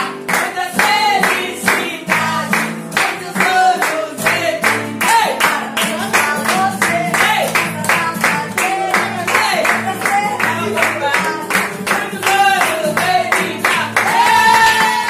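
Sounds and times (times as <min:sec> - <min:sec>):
group singing: 0:00.0 - 0:15.0
guitar: 0:00.0 - 0:15.0
people clapping: 0:00.0 - 0:15.0.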